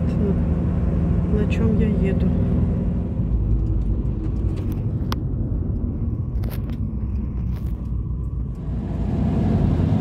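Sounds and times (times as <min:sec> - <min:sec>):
engine and road rumble: 0:00.0 - 0:10.0.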